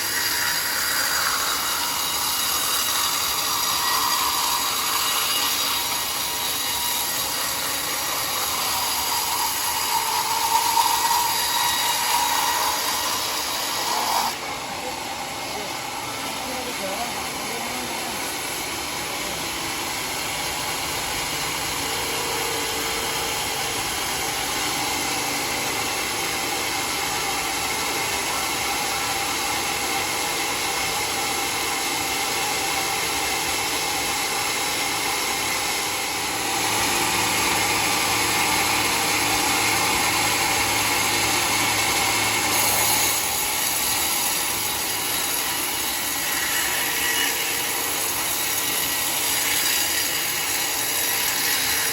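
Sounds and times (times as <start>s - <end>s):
sawmill saw cutting a log: 0.0s - 51.9s.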